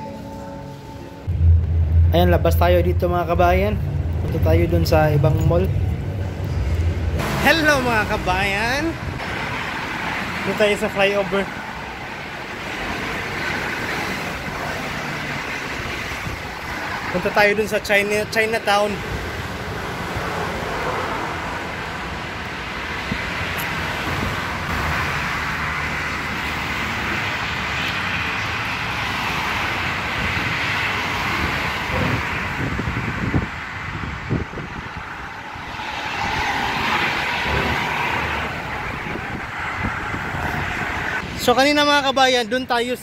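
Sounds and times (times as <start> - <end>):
road traffic rushing: 0.0 - 43.0.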